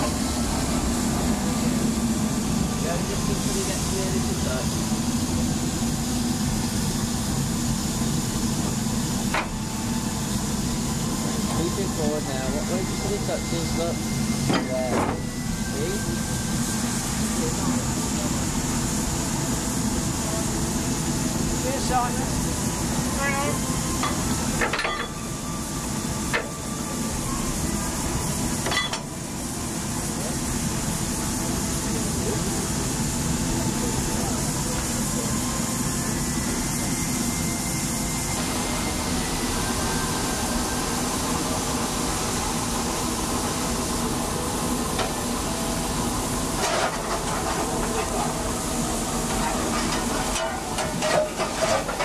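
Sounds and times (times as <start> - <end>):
steam locomotive rumble and hiss: 0.0 - 52.0.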